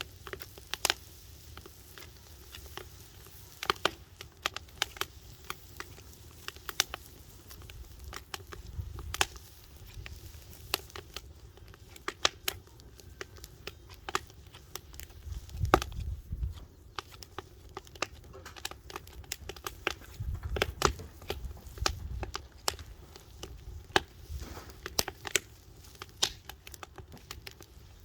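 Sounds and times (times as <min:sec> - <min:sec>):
fire pops and snaps: 0:00.0 - 0:28.0
firewood crackling: 0:00.0 - 0:28.0.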